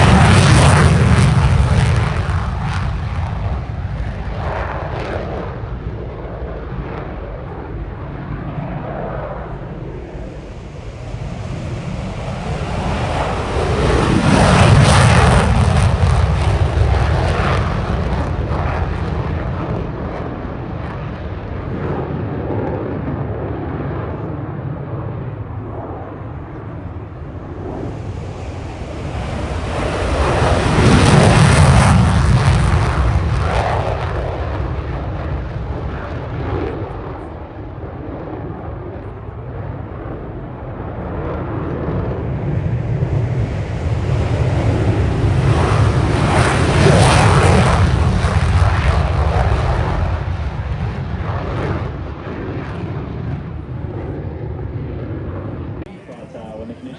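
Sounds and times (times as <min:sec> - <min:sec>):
aircraft engines roaring overhead: 0:00.0 - 0:56.9.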